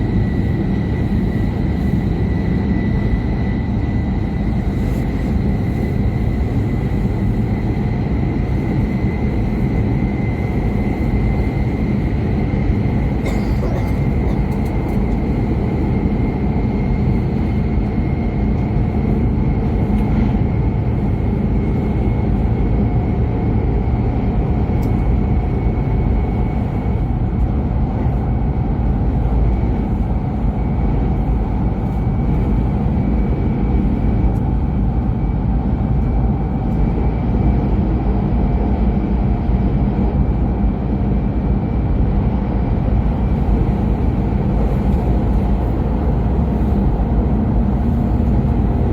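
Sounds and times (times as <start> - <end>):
train interior rumble: 0.0 - 48.9.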